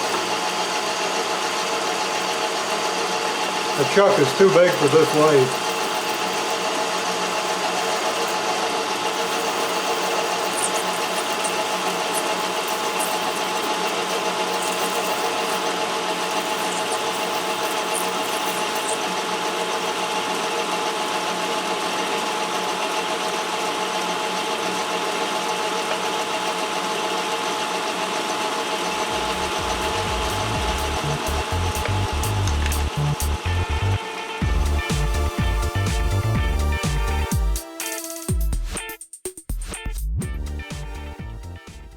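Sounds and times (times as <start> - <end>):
metal lathe humming: 0.0 - 38.0.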